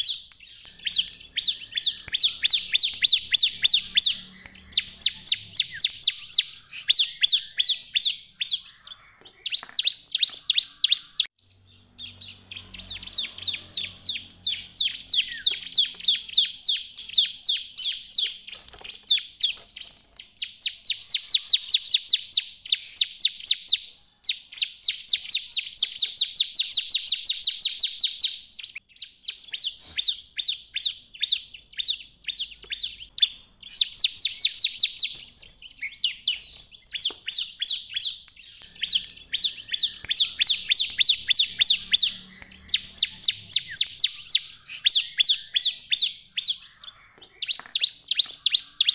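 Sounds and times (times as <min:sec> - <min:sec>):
bird song fast high chirping: 0:00.0 - 0:48.9.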